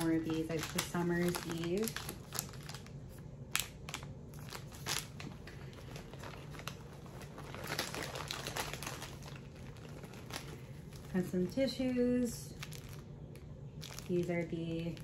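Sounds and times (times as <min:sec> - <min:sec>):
items rustling in a bag: 0:00.0 - 0:15.0
plastic packet crinkling: 0:00.0 - 0:15.0.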